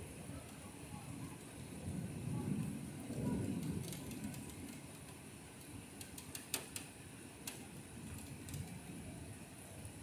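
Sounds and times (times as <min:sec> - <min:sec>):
rain hiss: 0:00.0 - 0:10.0
raindrops ticking on ledge: 0:00.1 - 0:10.0.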